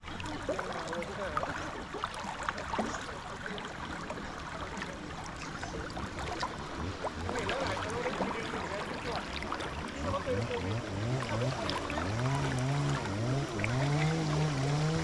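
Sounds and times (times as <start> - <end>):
stream flowing over rocks: 0.0 - 15.0
water splashing and gurgling: 0.0 - 15.0.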